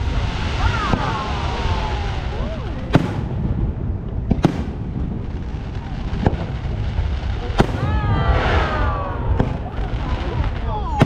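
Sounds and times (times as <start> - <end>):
fireworks bursting with sharp bangs: 0.0 - 11.0
low rumble: 0.0 - 11.0.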